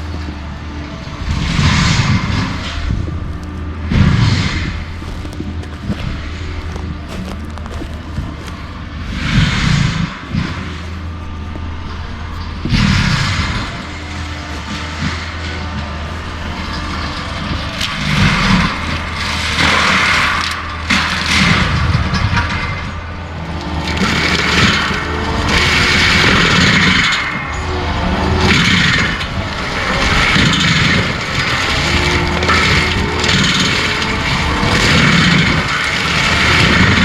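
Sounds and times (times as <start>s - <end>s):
engine hum: 0.0s - 37.0s
mulcher grinding and chipping: 0.0s - 37.0s
wood cracking: 1.3s - 22.8s, 28.6s - 37.0s.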